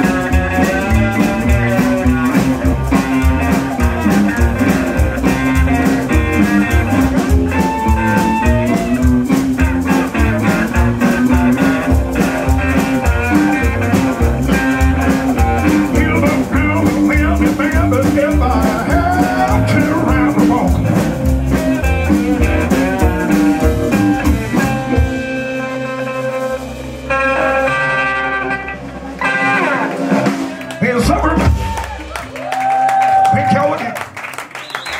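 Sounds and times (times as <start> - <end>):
live blues band playing: 0.0 - 34.9.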